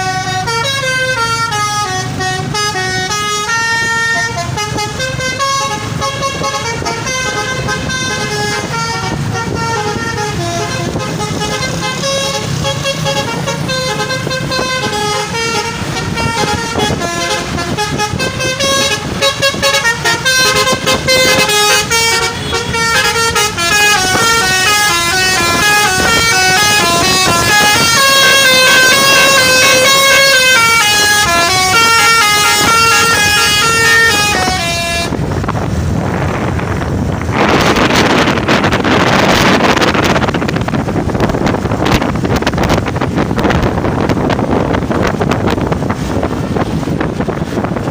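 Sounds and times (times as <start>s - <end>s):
bus musical air horn melody: 0.0s - 35.5s, 37.4s - 40.5s.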